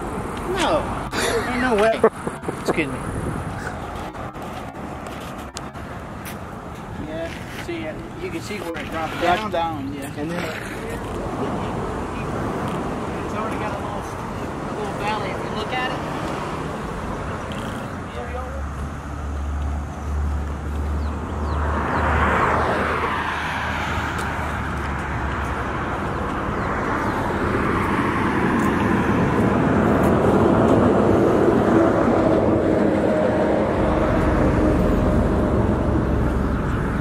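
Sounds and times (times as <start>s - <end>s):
traffic engine hum: 0.0s - 37.0s
vehicle passing: 0.0s - 37.0s.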